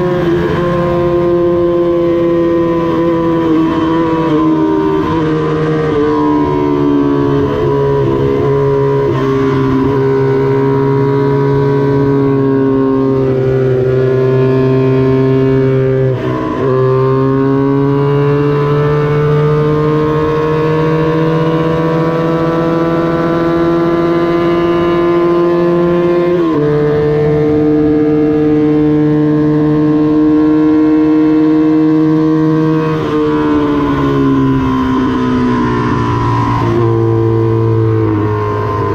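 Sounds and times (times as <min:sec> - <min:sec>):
racing motorcycle engine high revs: 0:00.0 - 0:38.9.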